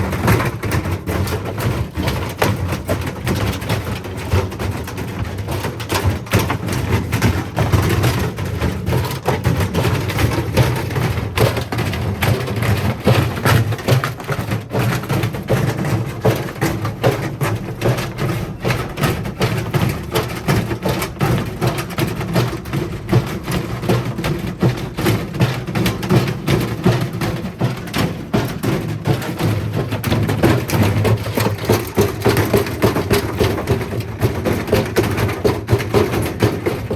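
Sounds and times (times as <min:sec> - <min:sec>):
bricks knocking in drum: 0:00.0 - 0:36.9.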